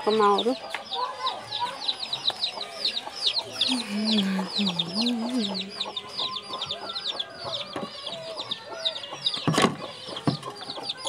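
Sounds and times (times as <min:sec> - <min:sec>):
chicks peeping: 0:00.0 - 0:11.0
hens clucking: 0:00.0 - 0:11.0.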